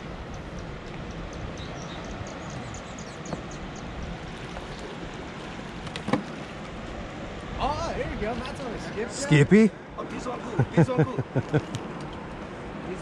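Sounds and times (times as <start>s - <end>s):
turbulent water rushing: 0.0s - 13.0s.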